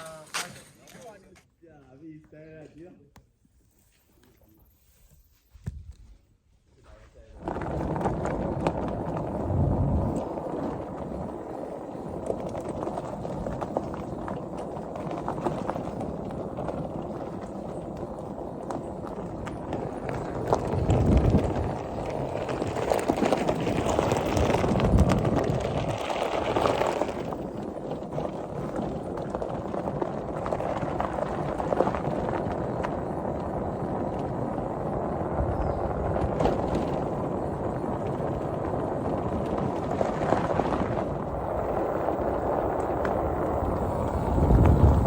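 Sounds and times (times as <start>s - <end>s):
wind and road noise: 4.6s - 45.0s.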